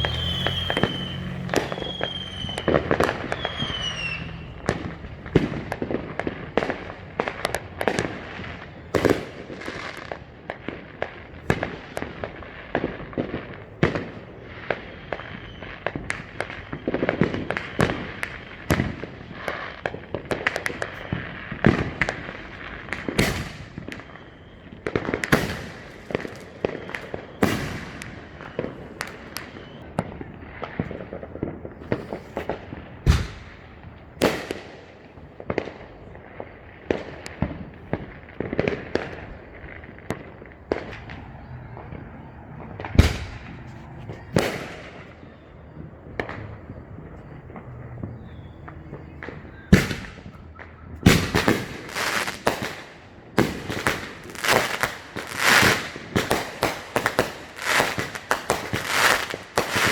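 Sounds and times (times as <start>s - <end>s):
fireworks bangs and crackles: 0.0s - 59.9s
heavy firework booms echoing: 0.0s - 59.9s.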